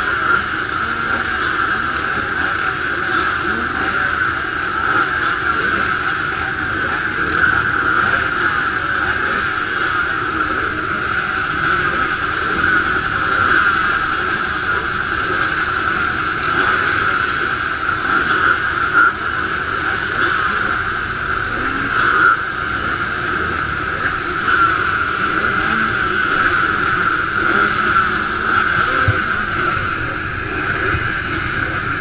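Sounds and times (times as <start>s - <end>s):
motocross bike engines droning: 0.0s - 32.0s.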